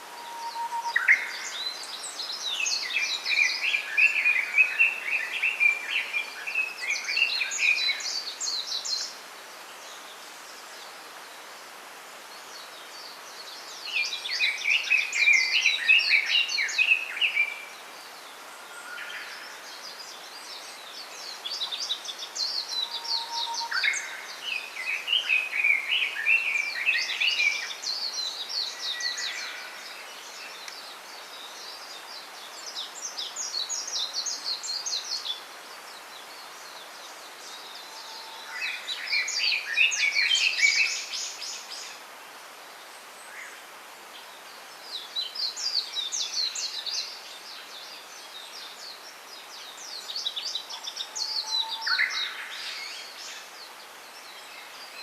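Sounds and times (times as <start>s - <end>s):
soft forest ambient hiss: 0.0s - 55.0s
songbirds twittering: 0.0s - 55.0s.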